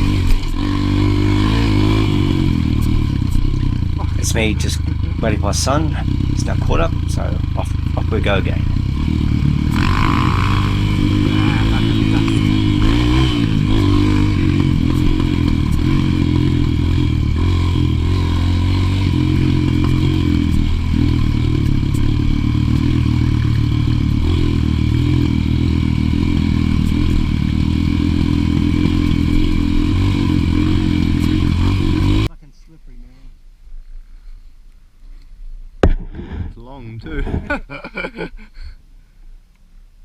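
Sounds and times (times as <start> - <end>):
motorcycle engine running: 0.0 - 32.3.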